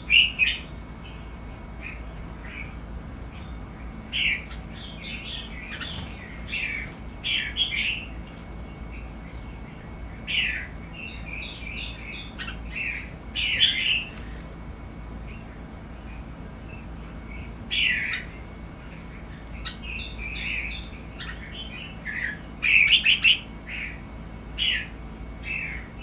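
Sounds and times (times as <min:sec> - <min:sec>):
birds singing warbling phrases: 0:00.0 - 0:26.0.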